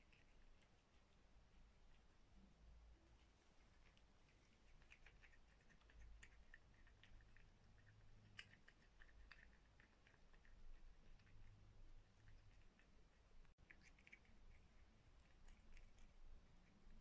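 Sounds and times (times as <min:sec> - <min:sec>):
cat chewing: 0:00.0 - 0:17.0.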